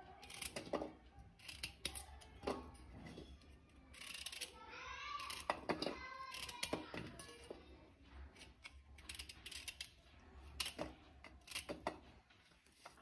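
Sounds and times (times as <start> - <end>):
kitchen utensils clicking and knocking: 0.0 - 4.6, 5.2 - 7.6, 8.3 - 13.0.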